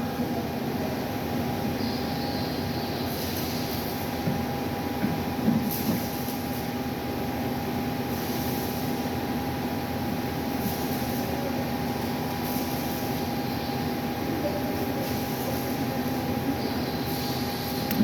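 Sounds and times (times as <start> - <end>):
diesel generator humming: 0.0 - 18.0.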